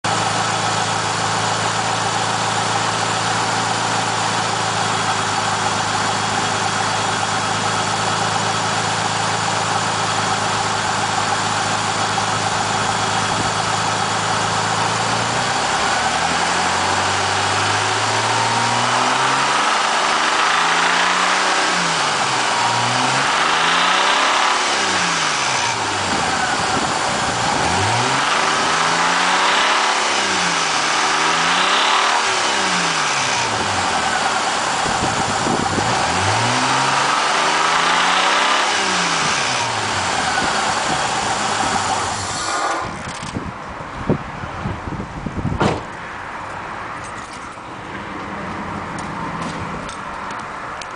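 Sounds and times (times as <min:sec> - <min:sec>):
car engine revving: 0:00.0 - 0:43.4
car engine idling: 0:00.0 - 0:50.9.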